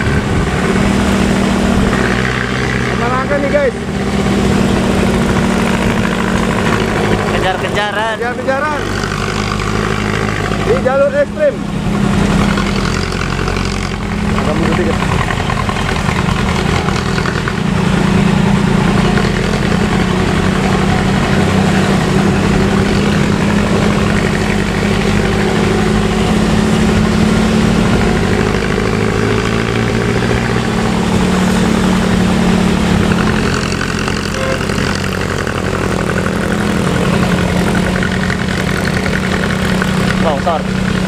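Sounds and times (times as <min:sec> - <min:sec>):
bus diesel engine drone: 0:00.0 - 0:41.0.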